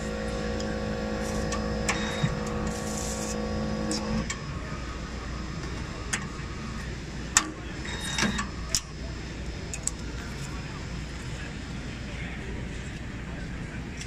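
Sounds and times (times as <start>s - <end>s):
machine motor hum: 0.0s - 11.5s.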